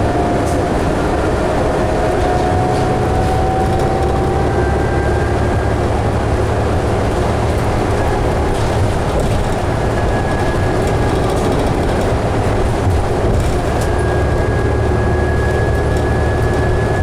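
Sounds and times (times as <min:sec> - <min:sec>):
bus drivetrain and road drone: 0:00.0 - 0:17.0.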